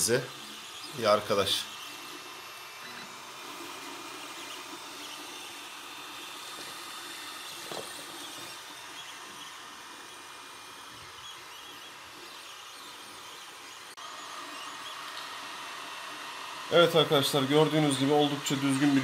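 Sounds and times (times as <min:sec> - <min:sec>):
cooling fans hissing: 0:00.0 - 0:19.0
faint motor tones: 0:00.0 - 0:19.0.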